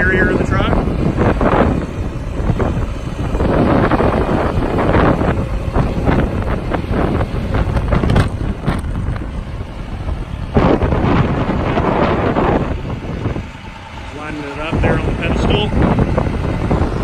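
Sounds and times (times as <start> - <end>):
truck engine running: 0.0 - 17.0
wind buffeting microphone: 0.0 - 17.0.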